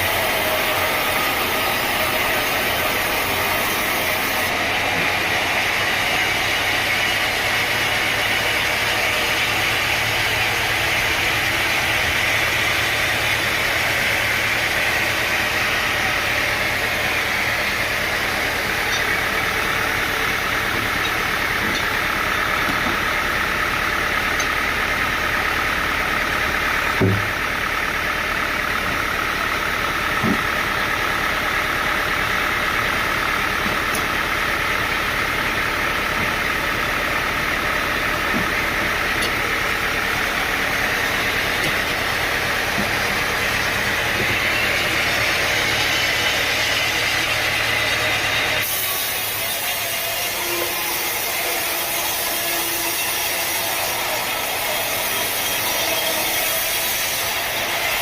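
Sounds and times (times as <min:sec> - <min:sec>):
engine running: 0:00.0 - 0:58.0
hissy mechanical noise: 0:00.0 - 0:58.0.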